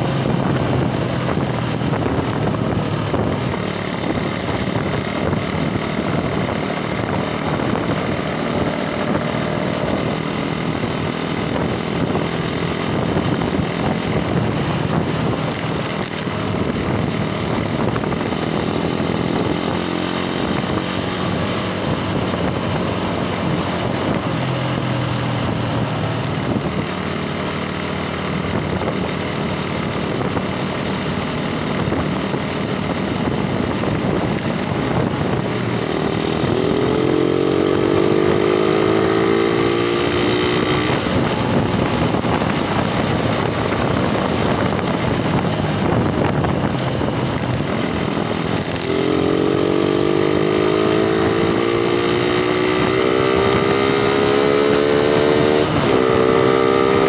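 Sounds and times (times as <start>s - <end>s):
motorcycle engine: 0.0s - 57.0s
wind rush on microphone: 0.0s - 57.0s.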